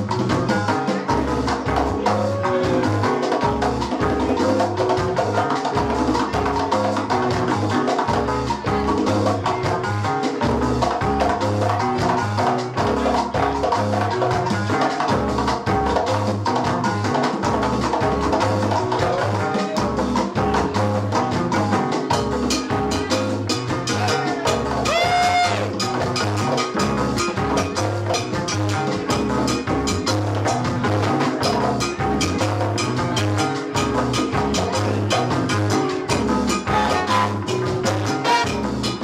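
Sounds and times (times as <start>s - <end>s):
bass line: 0.0s - 39.0s
drum kit: 0.0s - 39.0s
guitar: 0.0s - 39.0s
keyboard: 0.0s - 39.0s
latin hand percussion: 0.0s - 39.0s.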